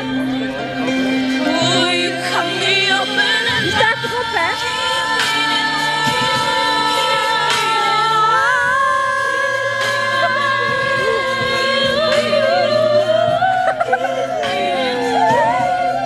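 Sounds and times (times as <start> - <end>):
steady musical accompaniment: 0.0 - 16.0.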